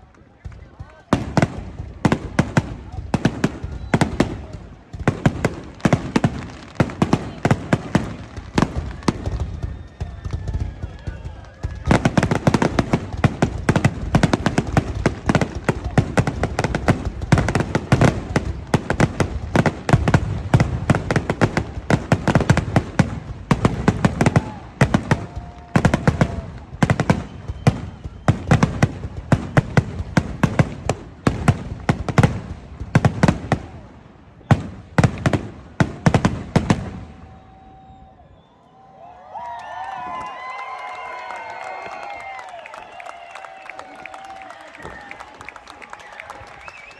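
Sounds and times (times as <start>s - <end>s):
fireworks bursting: 0.0s - 38.8s, 39.8s - 46.9s.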